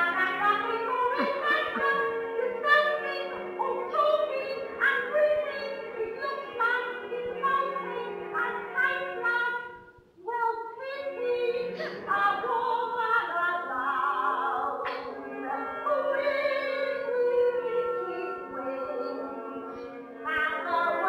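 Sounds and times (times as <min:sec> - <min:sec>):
woman singing: 0:00.0 - 0:19.6, 0:20.2 - 0:21.0.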